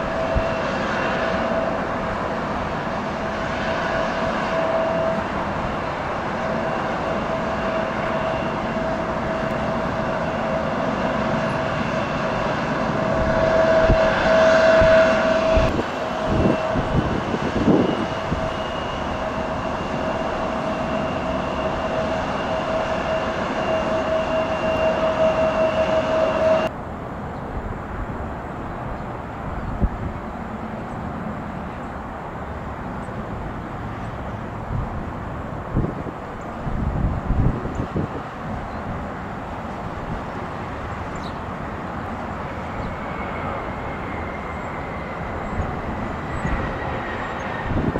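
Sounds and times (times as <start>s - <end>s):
jet engines whining: 0.0s - 47.9s
wind noise: 0.0s - 47.9s.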